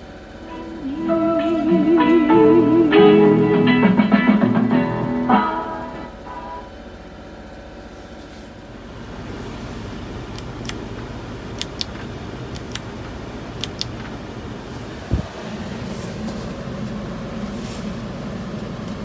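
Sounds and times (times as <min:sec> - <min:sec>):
small truck engine idling: 0:00.0 - 0:19.0.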